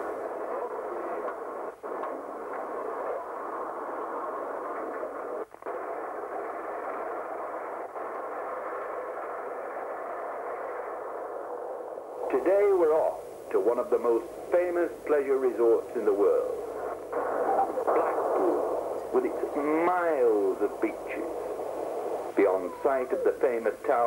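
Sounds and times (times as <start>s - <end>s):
thin steady hiss: 0.0s - 24.0s.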